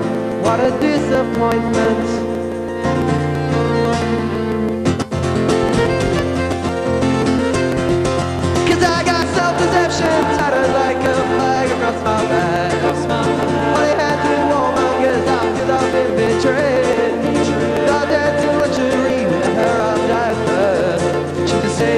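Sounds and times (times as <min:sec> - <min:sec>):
folk-rock band playing: 0:00.0 - 0:21.9.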